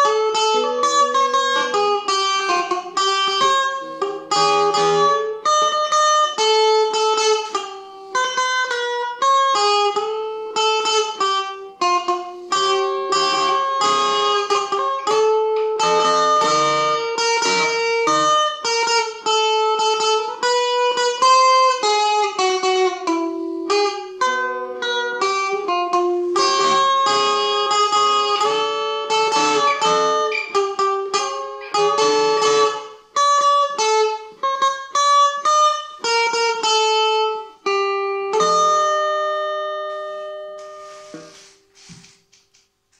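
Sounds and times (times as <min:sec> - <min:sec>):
clean electric guitar melody: 0:00.0 - 0:42.6.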